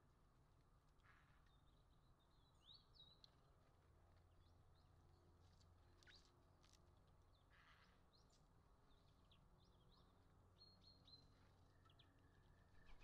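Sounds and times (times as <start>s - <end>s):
songbirds chirping: 1.3s - 13.0s.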